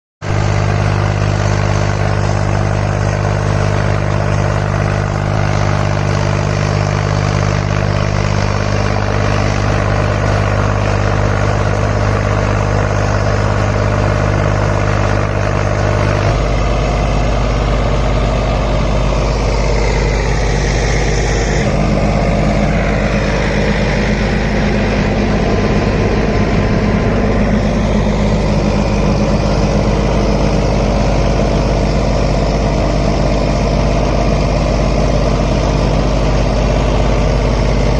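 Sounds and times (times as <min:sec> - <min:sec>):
tractor diesel engine running: 0:00.2 - 0:37.9.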